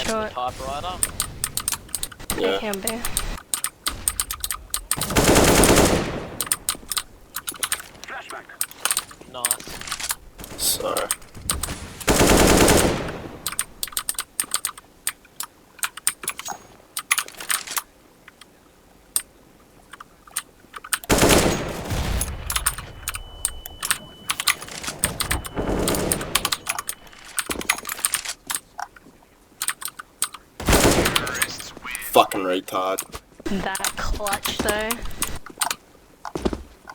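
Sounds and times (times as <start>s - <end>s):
mechanical keyboard typing: 0.9s - 8.0s, 8.6s - 18.5s, 19.9s - 29.0s, 29.6s - 31.7s, 33.0s - 35.8s.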